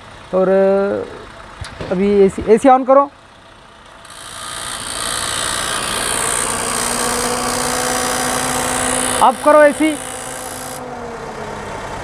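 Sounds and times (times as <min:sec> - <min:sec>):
car engine idling: 0:00.0 - 0:02.4, 0:03.1 - 0:12.0
ac compressor whirring: 0:01.2 - 0:10.9.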